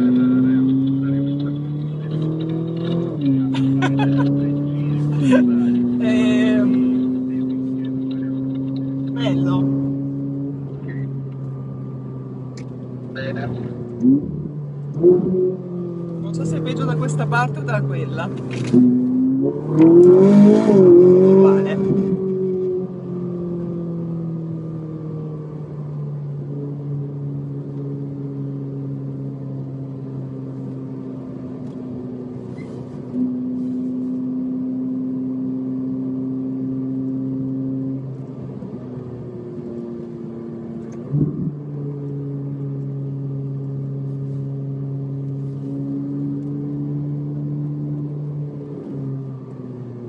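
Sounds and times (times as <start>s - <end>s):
car engine from inside cabin: 0.0s - 50.0s.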